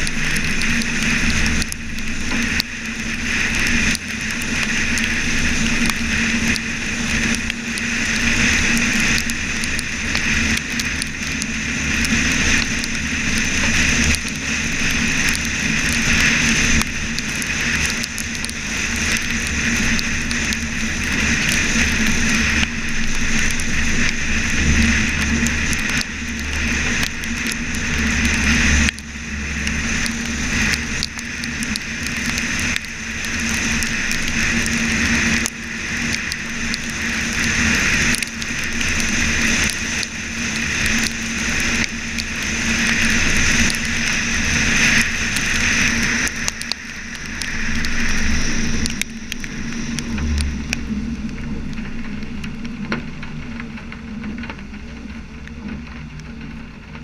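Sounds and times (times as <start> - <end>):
car engine and road noise: 0.0 - 57.0
hiss of tyre spray and rain: 0.0 - 57.0.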